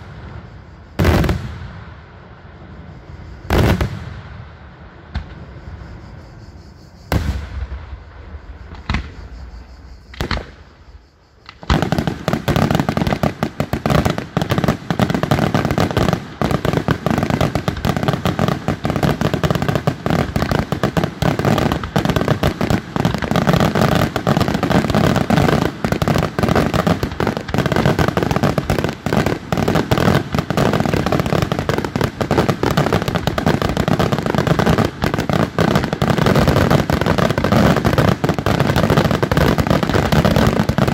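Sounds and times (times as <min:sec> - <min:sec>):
fireworks bursting: 0:00.0 - 0:06.0, 0:07.0 - 0:40.9.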